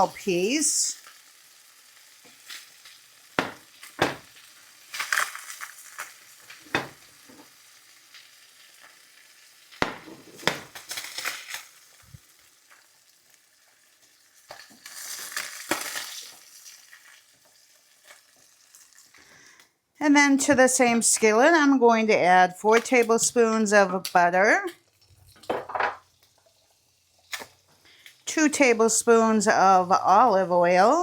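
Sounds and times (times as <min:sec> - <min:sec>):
oil sizzling in a skillet: 0:00.0 - 0:19.6, 0:24.8 - 0:31.0.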